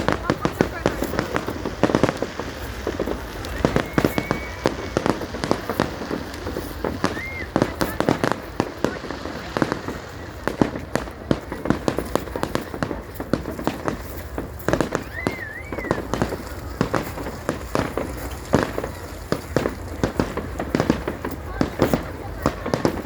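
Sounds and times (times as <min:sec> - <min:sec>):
firework whistle: 0:00.0 - 0:23.0
fireworks bangs and crackling: 0:00.0 - 0:23.0.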